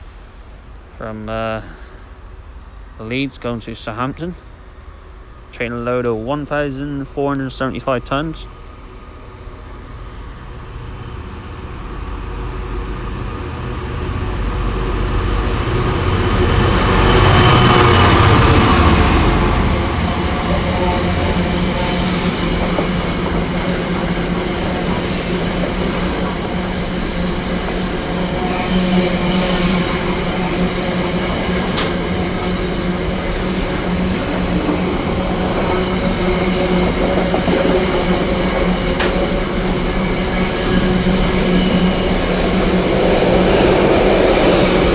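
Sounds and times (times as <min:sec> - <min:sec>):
low train drone: 0:00.0 - 0:44.9
train wheels rumbling on rails: 0:00.0 - 0:44.9.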